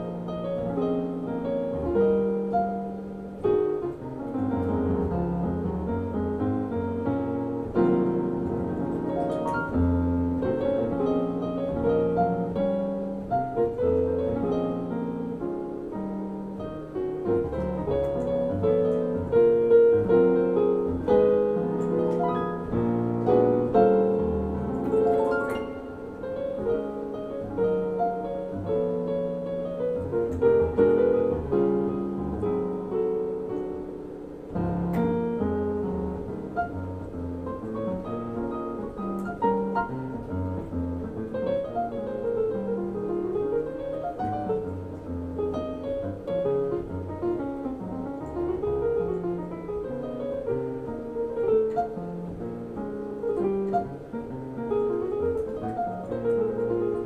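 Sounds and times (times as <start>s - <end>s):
jazz piano: 0.0s - 57.0s.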